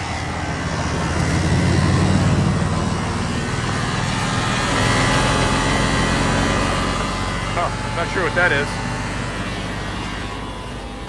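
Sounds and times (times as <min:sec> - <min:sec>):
diesel engine idling: 0:00.0 - 0:11.0
faint whine: 0:00.0 - 0:11.0.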